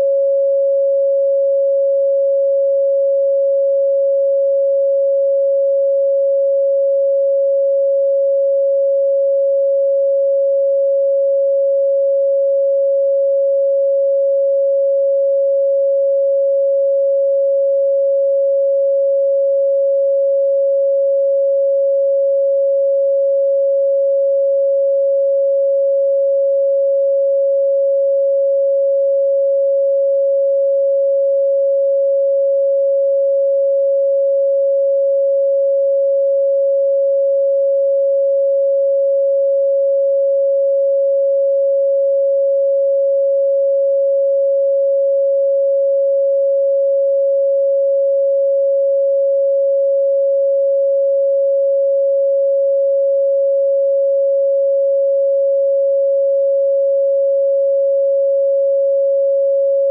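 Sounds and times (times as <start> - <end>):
steady sine tone: 0.0 - 59.9.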